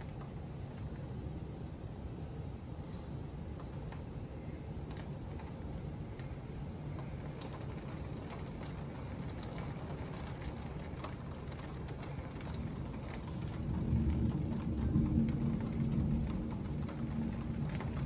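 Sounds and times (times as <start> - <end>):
heavy rain falling: 3.4 - 18.0.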